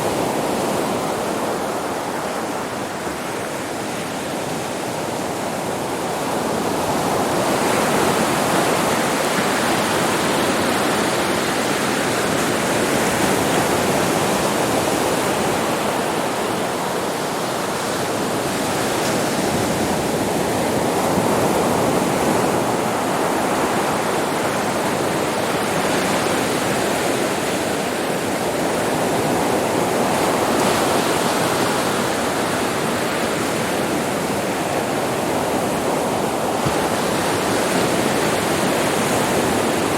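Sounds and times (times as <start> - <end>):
sea waves breaking on a beach: 0.0 - 39.9.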